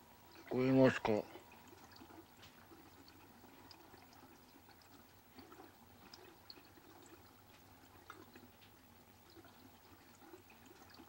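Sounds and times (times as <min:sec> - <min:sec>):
faint trickling water: 0:00.0 - 0:11.0
water dripping: 0:00.0 - 0:11.0.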